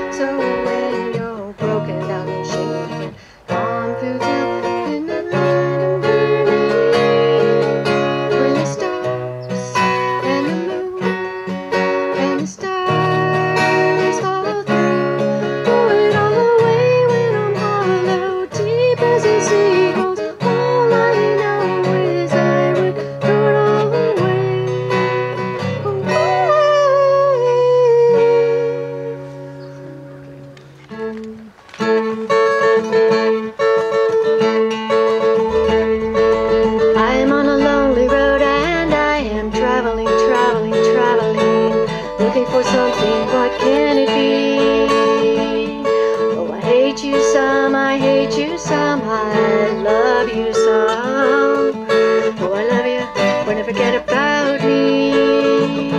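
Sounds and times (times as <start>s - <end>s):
woman singing: 0.0s - 29.2s, 32.5s - 55.9s
acoustic guitar strumming: 0.0s - 55.9s.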